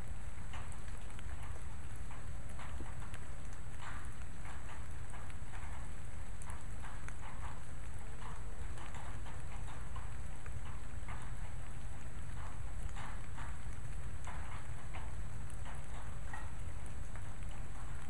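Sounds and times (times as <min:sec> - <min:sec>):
raindrops tapping: 0:00.0 - 0:18.0
steady rain: 0:00.0 - 0:18.0.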